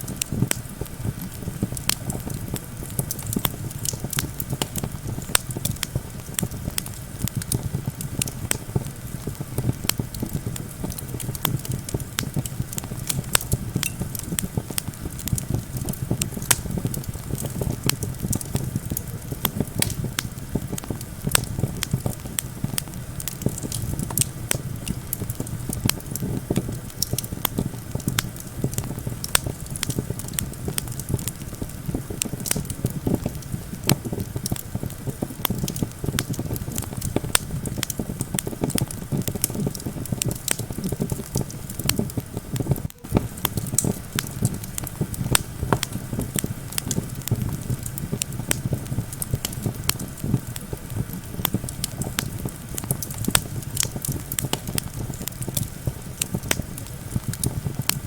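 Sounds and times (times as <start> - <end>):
campfire crackling and popping: 0.0 - 58.0
low rumble of wind: 0.0 - 58.0.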